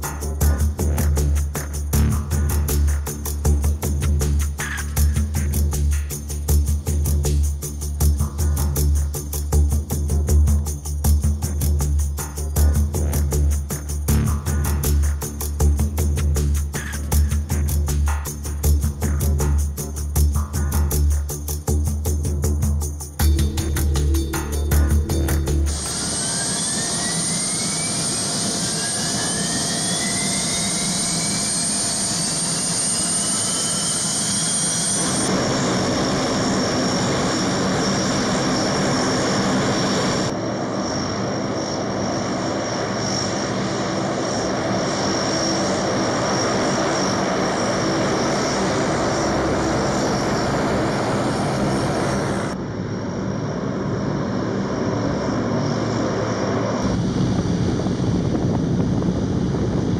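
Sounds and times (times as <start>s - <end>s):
turbine whine rising in pitch: 0.0s - 59.9s
turboprop engines running: 0.0s - 59.9s.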